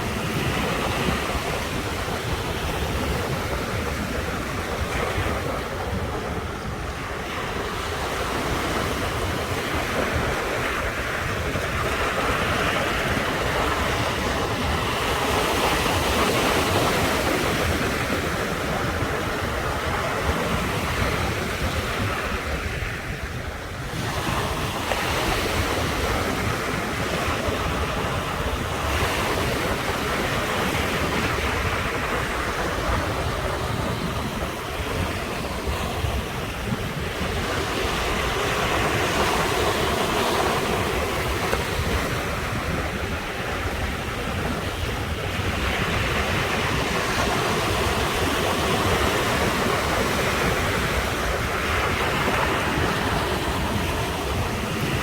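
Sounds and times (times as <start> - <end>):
ocean surf breaking on shore: 0.0 - 55.0.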